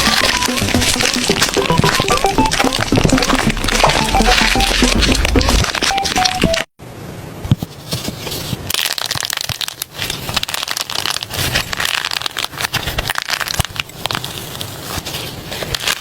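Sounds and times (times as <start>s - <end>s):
slime crackling and popping: 0.0s - 6.7s, 8.7s - 14.6s, 15.6s - 16.0s.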